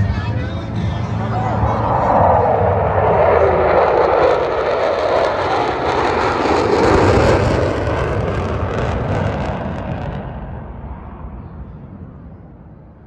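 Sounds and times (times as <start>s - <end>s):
jet engines roaring past: 0.0s - 13.0s.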